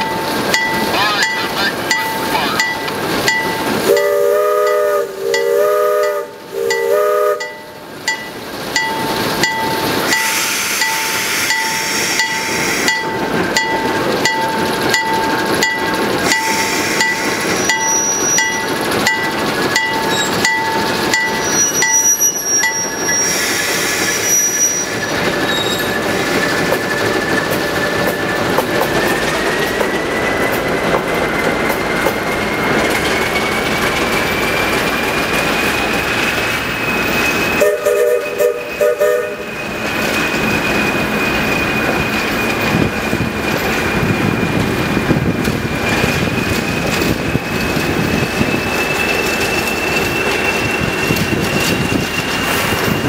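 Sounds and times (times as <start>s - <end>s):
locomotive bell ringing: 0.0s - 23.4s, 24.2s - 45.2s, 45.8s - 53.0s
diesel locomotive engine under load: 0.0s - 53.0s.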